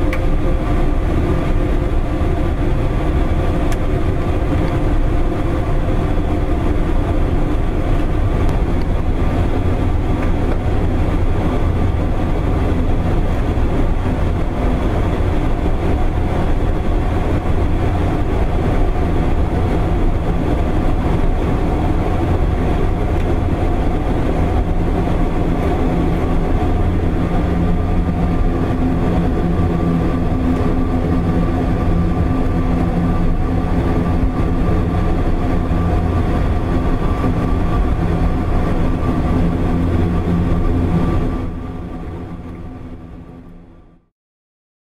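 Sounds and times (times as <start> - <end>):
turboprop engines droning: 0.0 - 44.1.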